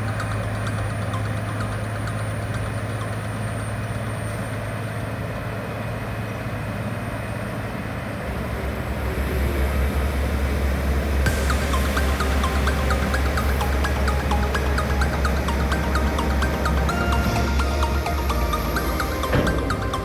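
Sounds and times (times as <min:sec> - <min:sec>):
diesel machinery engine hum: 0:00.0 - 0:20.0.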